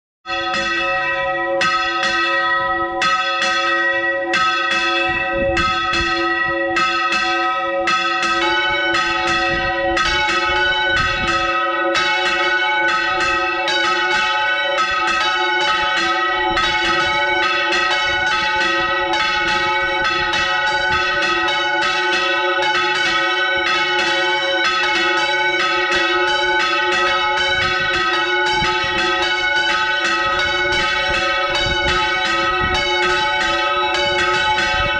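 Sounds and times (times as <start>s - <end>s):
church bells ringing: 0.3s - 34.9s.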